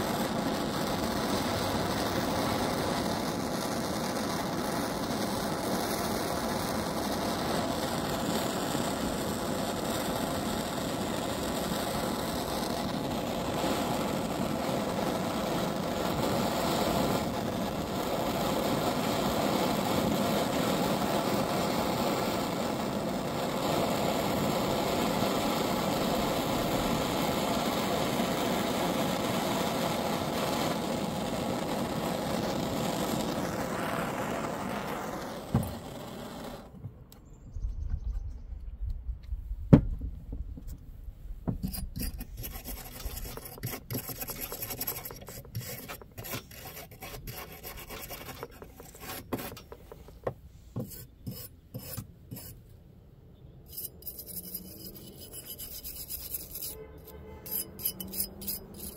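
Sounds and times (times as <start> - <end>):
propane torch hissing: 0.0 - 36.8, 41.5 - 52.6.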